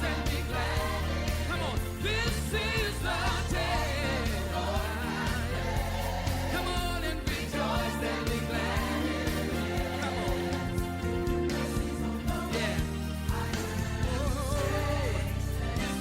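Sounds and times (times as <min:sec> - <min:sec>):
low bass line: 0:00.0 - 0:16.0
voices singing gospel: 0:00.0 - 0:16.0.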